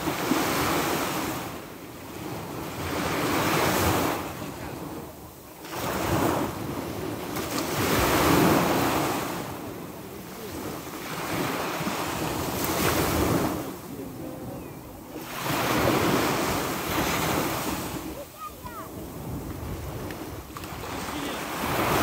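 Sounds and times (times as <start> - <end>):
sea waves breaking on shore: 0.0 - 22.0
wind on microphone: 0.0 - 22.0.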